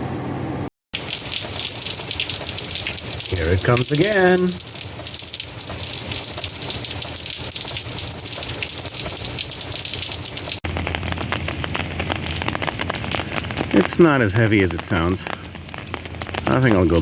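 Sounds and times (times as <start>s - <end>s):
heavy rain hissing: 1.0s - 17.0s.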